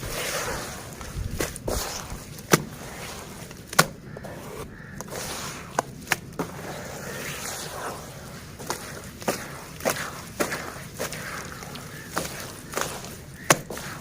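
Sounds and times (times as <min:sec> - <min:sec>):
soft crackle of dirt in water: 0:00.0 - 0:14.0.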